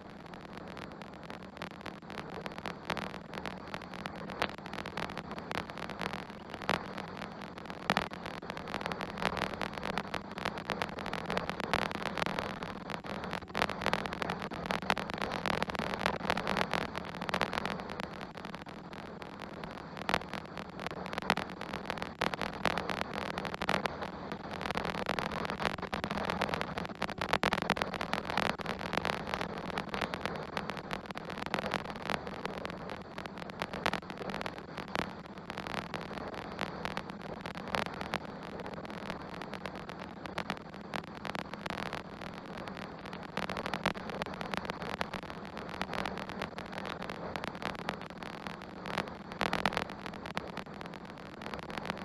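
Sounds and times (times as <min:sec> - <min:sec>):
crackles and pops: 0:00.0 - 0:52.0.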